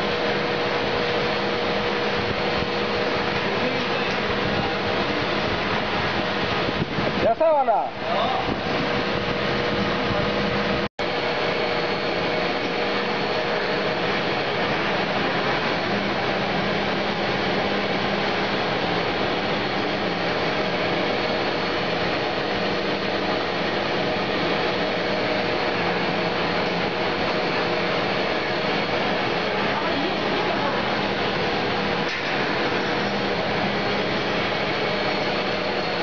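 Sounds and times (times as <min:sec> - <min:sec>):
blower-like machine rush: 0:00.0 - 0:36.0.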